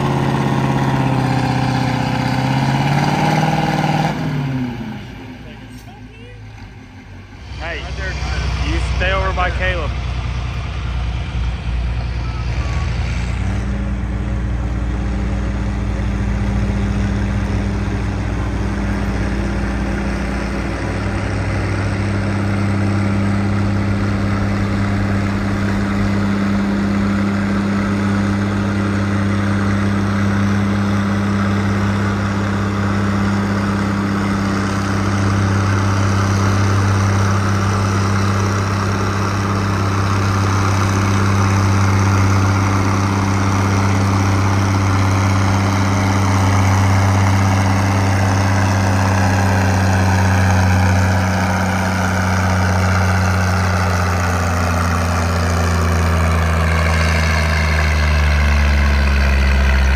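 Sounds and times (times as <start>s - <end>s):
heavy vehicle engine running: 0.0s - 59.9s.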